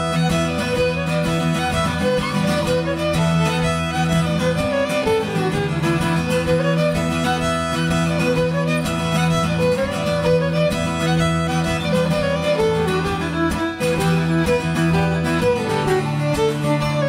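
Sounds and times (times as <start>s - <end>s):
acoustic guitar accompaniment: 0.0s - 17.0s
fiddle melody: 0.0s - 17.0s.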